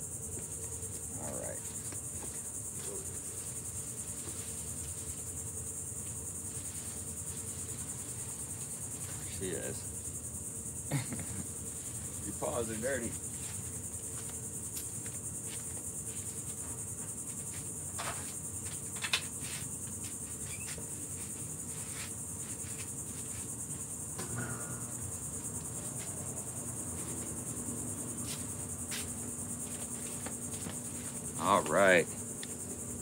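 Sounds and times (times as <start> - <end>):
insects chirring: 0.0 - 33.0.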